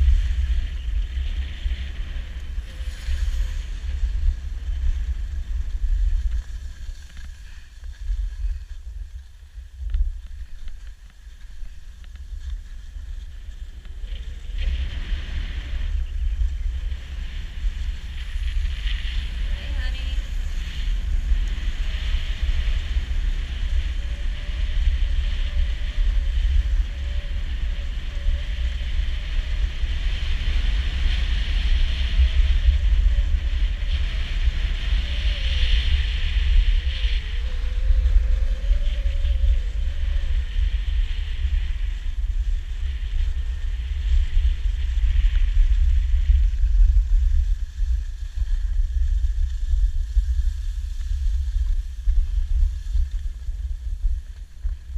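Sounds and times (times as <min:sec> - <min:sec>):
skis sliding on snow: 0:00.0 - 0:54.9
wind buffeting microphone: 0:00.0 - 0:54.9.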